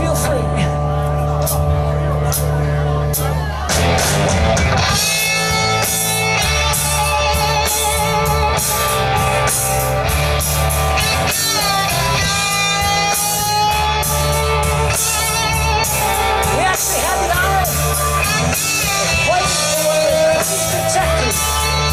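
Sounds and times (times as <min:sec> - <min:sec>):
electric guitar melody: 0:00.0 - 0:21.9
rock band playing live: 0:00.0 - 0:21.9.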